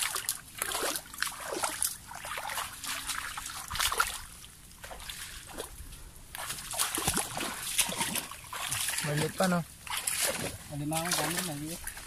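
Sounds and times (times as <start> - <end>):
splashing shallow water and mud: 0.0 - 12.0.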